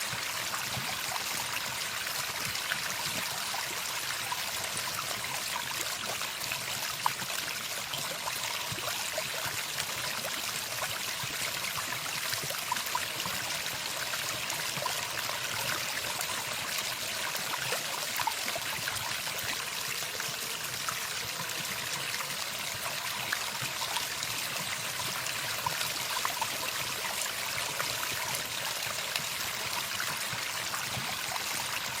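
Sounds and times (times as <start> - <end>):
stream of running water: 0.0 - 32.0
water trickling and splashing: 0.0 - 32.0.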